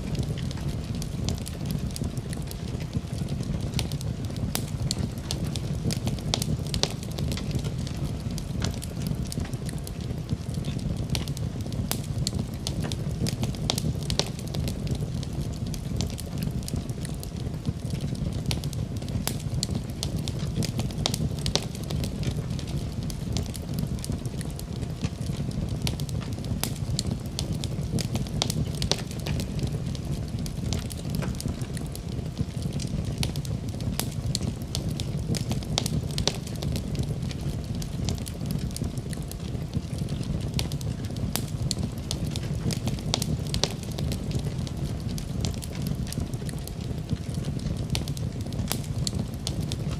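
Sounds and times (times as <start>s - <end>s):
fire crackling and popping: 0.0s - 49.9s
fire rumbling: 0.0s - 49.9s.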